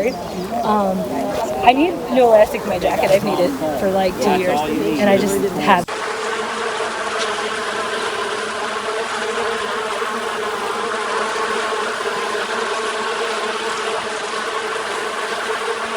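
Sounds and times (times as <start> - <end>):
honeybees buzzing: 0.0 - 15.9.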